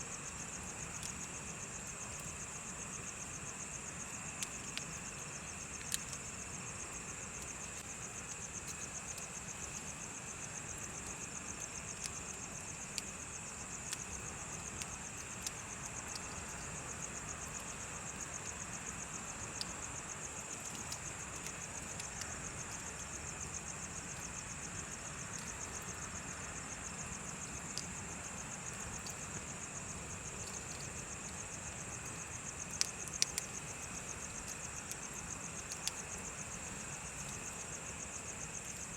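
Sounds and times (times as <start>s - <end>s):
crickets chirping: 0.0s - 38.9s
bonfire crackling and popping: 4.2s - 18.6s, 19.2s - 26.0s, 26.9s - 37.7s.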